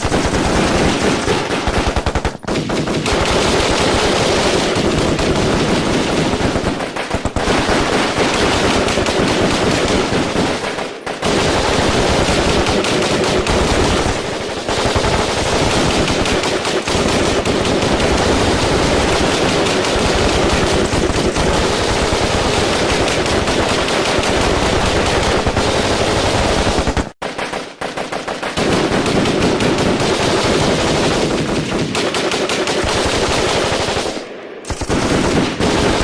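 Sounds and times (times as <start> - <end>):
heavy automatic gunfire: 0.0 - 36.0.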